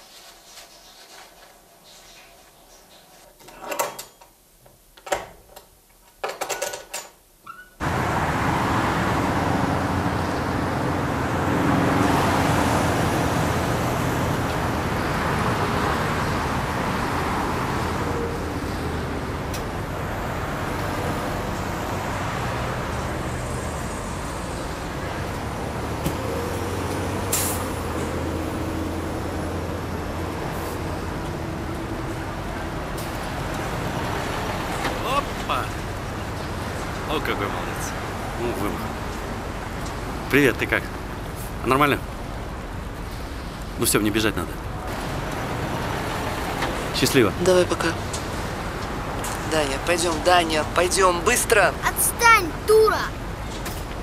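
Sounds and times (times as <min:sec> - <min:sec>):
city street traffic: 0:07.5 - 0:54.0.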